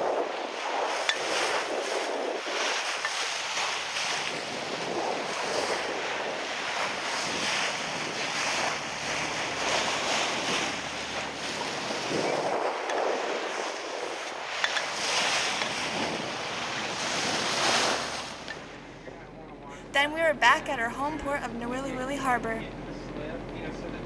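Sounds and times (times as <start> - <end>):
wind buffeting microphone: 0.0 - 22.0
water rushing along boat bow: 0.0 - 23.5.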